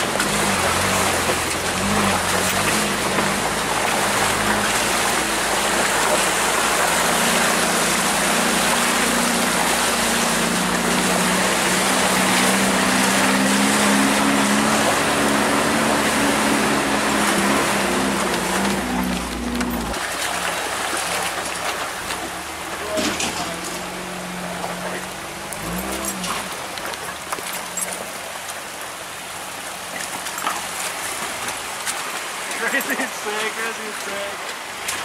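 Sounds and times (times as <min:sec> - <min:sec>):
truck engine pulling at low speed: 0:00.0 - 0:35.0.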